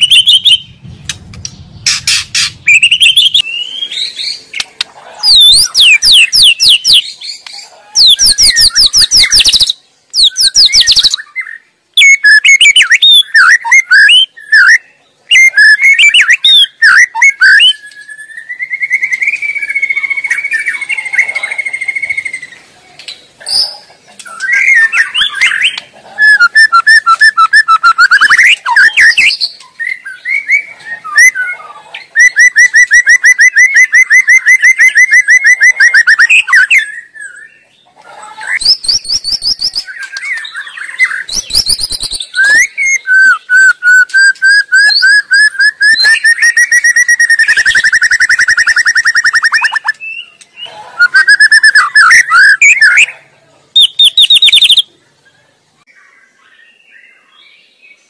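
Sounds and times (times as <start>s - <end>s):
bird singing whistles and trills: 0.0s - 4.6s, 5.2s - 22.6s, 23.4s - 37.6s, 38.5s - 53.2s, 53.8s - 54.9s.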